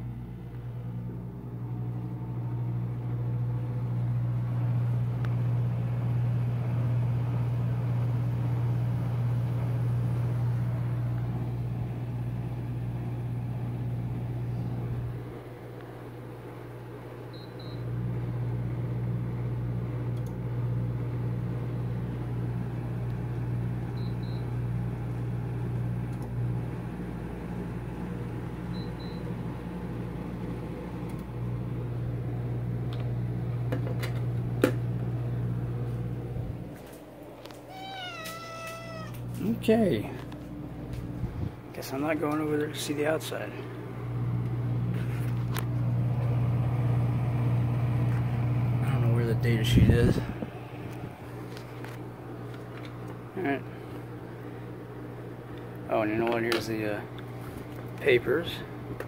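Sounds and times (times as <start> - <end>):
air conditioner humming: 0.0 - 59.0.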